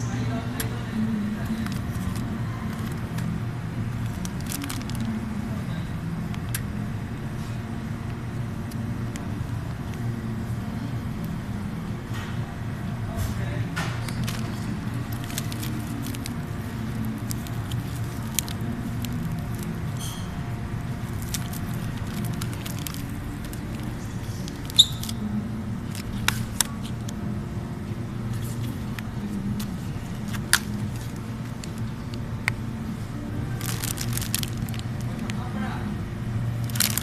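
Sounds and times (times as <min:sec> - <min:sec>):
refrigerated display cases humming: 0:00.0 - 0:37.0.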